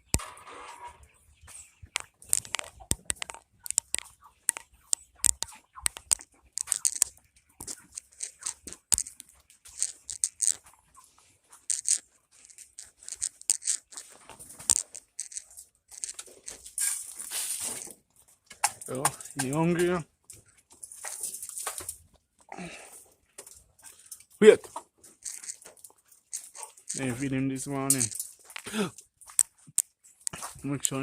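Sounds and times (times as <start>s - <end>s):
fowl pecking at feed: 0.0s - 31.0s.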